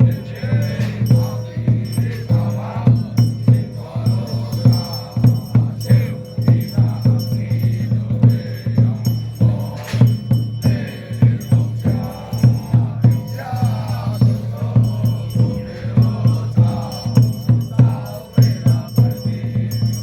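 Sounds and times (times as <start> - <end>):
people chanting in unison: 0.0 - 20.0
steady drum beat: 0.0 - 20.0.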